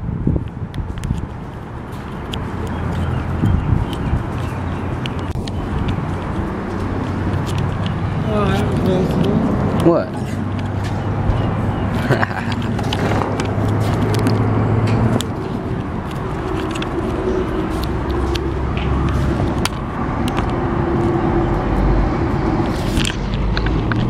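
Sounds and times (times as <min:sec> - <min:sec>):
vehicle engine running: 0:01.3 - 0:24.0.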